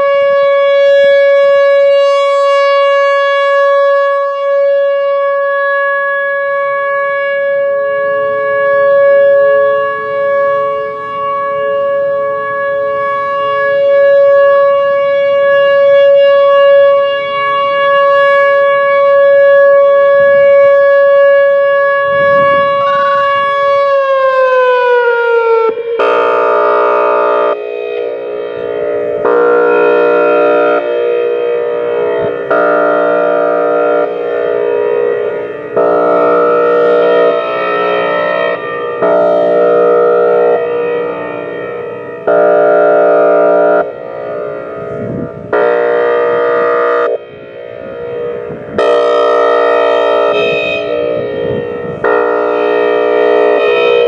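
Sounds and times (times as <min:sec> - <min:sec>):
fainter lower siren tone: 0:00.0 - 0:54.0
multi-tone siren wail: 0:00.0 - 0:54.0
warning siren steady test tone: 0:00.0 - 0:54.0.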